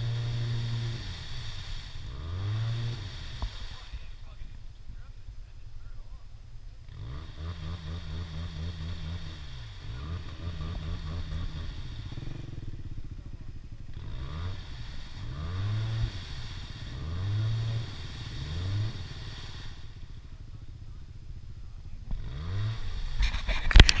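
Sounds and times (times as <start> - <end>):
engine revving in bursts: 0.0 - 5.2, 6.8 - 24.0.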